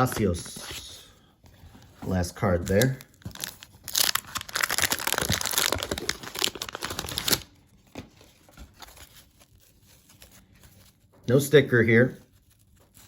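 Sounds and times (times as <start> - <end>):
paper wrapper crinkling: 1.8 - 13.0.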